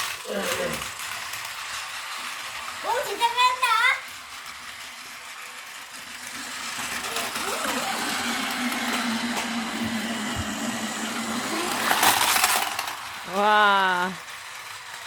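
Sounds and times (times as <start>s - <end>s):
toy train clattering: 0.0s - 15.0s
toy train motor humming: 0.0s - 15.0s
toy train wheels rattling: 0.0s - 15.0s.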